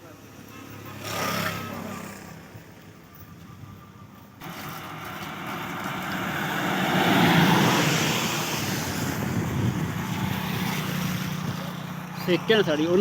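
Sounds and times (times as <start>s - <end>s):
motor vehicle passing by: 0.6s - 2.6s, 4.4s - 13.0s.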